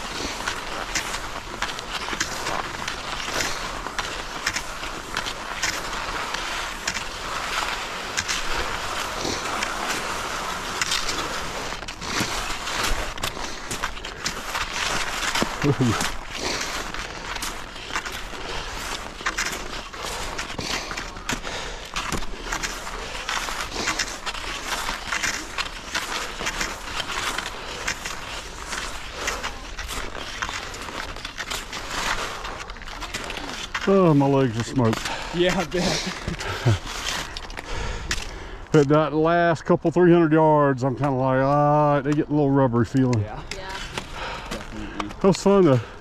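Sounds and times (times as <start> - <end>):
crunches of ski strides: 0.0 - 46.0
skis gliding over snow: 0.0 - 46.0.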